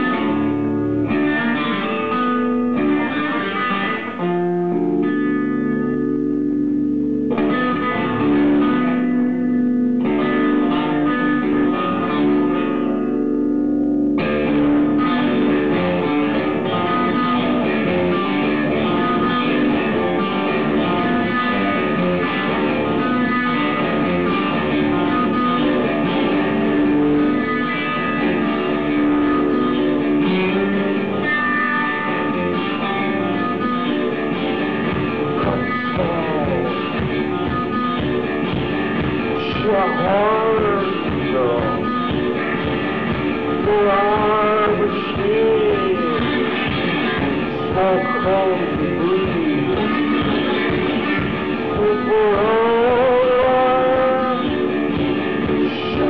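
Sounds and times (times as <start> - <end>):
plucked guitar: 0.0 - 56.0.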